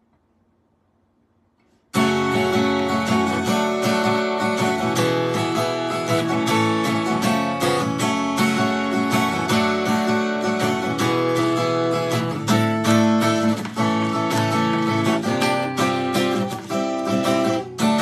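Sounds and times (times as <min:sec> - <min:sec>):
acoustic guitar strummed chords: 0:01.9 - 0:18.0.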